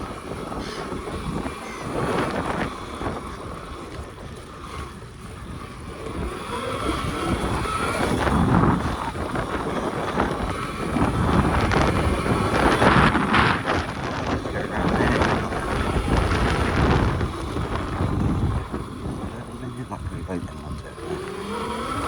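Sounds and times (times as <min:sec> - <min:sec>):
faint high motor whine: 0:00.0 - 0:22.0
rumble of bike ride: 0:00.0 - 0:22.0
wind buffeting microphone: 0:00.0 - 0:22.0.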